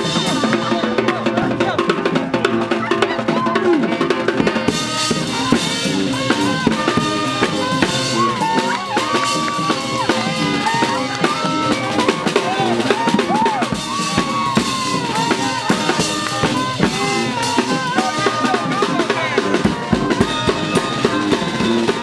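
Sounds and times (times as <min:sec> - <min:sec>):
high horn line with bent notes: 0:00.0 - 0:22.0
street brass band playing: 0:00.0 - 0:22.0.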